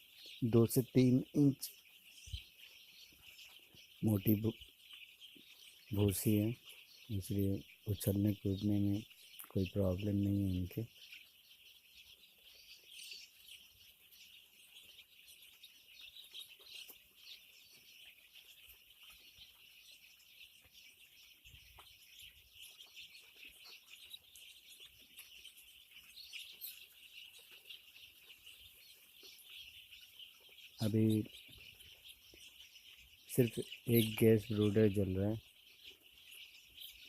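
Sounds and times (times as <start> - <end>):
chicks peeping: 0.0 - 37.0.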